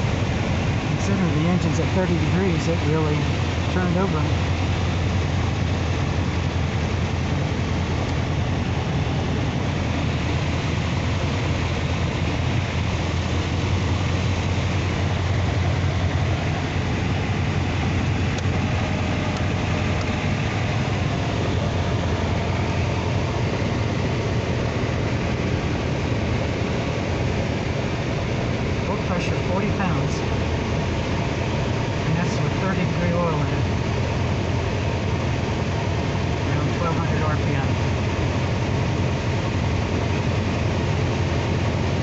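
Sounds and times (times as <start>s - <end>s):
aircraft engine and propeller drone: 0.0s - 42.0s.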